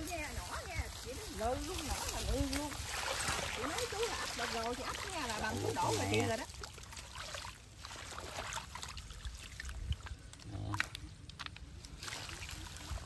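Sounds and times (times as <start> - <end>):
water splashing and dripping: 0.0 - 13.0.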